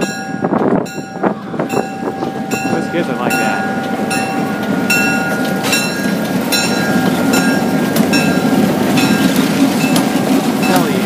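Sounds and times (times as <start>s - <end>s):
diesel locomotives rumbling: 0.0s - 11.0s
grade crossing bell ringing: 0.0s - 11.0s.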